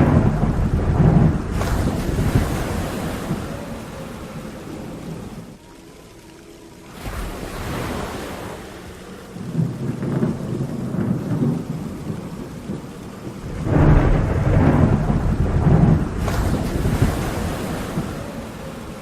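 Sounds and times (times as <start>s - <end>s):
heavy rain: 0.0s - 19.0s
thunder rumbling: 0.0s - 19.0s.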